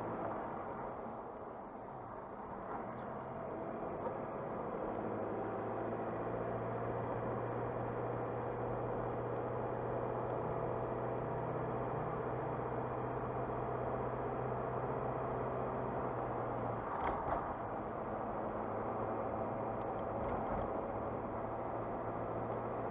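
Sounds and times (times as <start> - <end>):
tyre and road noise: 0.0 - 12.1, 13.4 - 22.9
car engine humming: 0.0 - 22.9.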